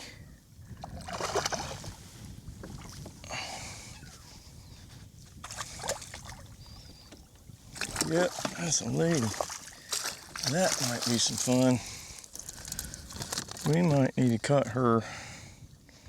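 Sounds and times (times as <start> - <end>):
water splashing around a kayak: 0.7 - 14.0.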